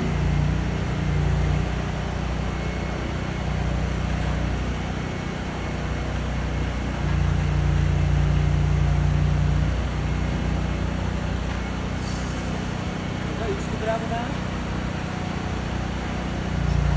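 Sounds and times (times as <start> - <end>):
truck engine running: 0.0 - 16.9.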